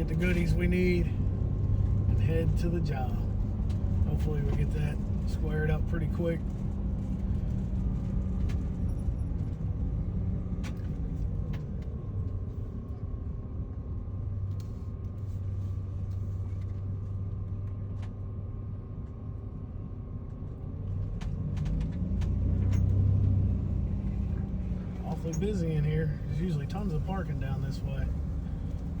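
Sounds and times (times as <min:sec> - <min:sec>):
road rumble: 0:00.0 - 0:29.0
van engine running: 0:00.0 - 0:29.0.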